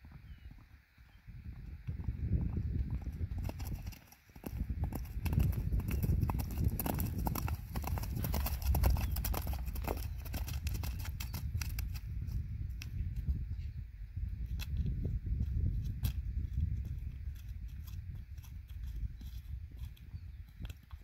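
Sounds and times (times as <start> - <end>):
hooves trotting on dirt road: 0.0 - 13.6, 14.4 - 21.0.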